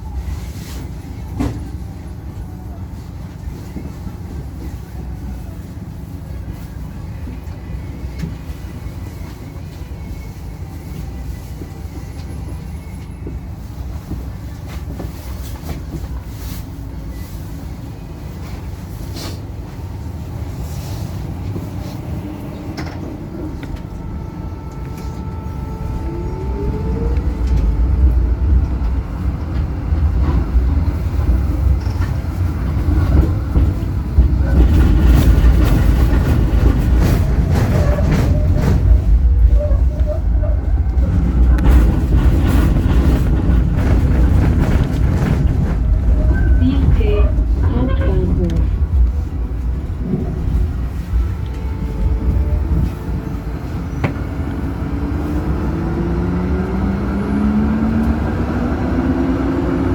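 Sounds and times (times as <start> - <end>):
tram rumbling on rails: 0.0 - 59.9.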